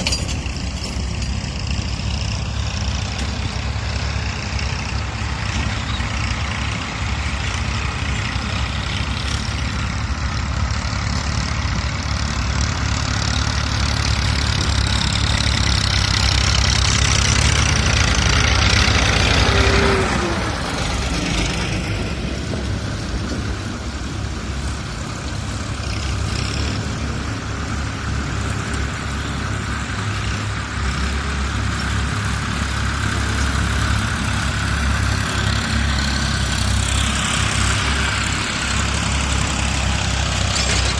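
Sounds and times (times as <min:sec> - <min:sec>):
heavy engine running: 0:00.0 - 0:40.9.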